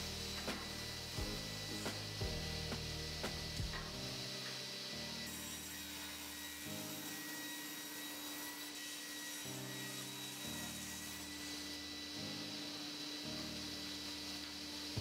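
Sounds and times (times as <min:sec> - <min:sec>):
background music sustained chords: 0:00.0 - 0:07.0, 0:09.5 - 0:15.0
table saw cutting wood: 0:00.0 - 0:15.0.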